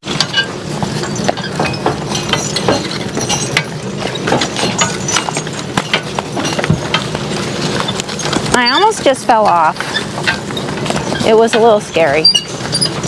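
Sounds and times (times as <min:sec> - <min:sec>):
cart rattling on rough road: 0:00.0 - 0:13.0
harness clinking: 0:00.0 - 0:13.0
horse hooves clopping: 0:00.0 - 0:13.0.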